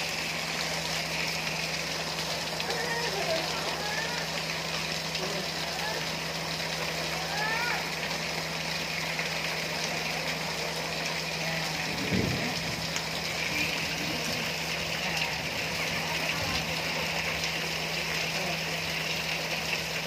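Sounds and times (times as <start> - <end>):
heavy rain: 0.0 - 20.0
rainwater pouring from roof drain: 0.0 - 20.0.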